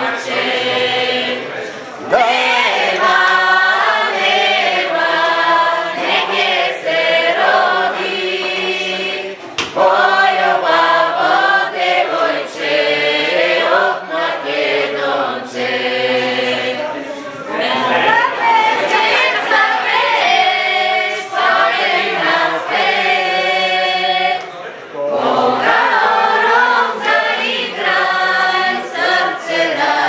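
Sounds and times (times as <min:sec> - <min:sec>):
women singing folk song: 0:00.0 - 0:16.8, 0:17.5 - 0:24.4, 0:25.1 - 0:30.0.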